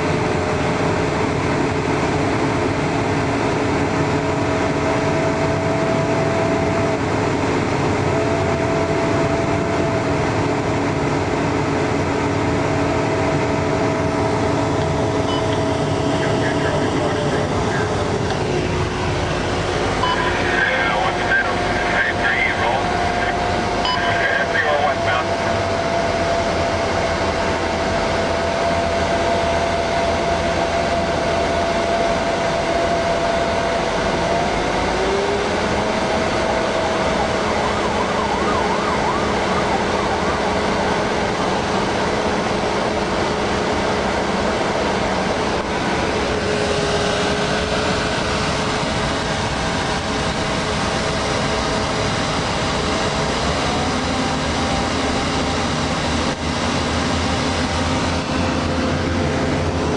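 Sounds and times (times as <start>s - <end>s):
diesel engine running: 0.0s - 59.9s
road and tyre noise: 0.0s - 59.9s
steady whine: 0.0s - 59.9s.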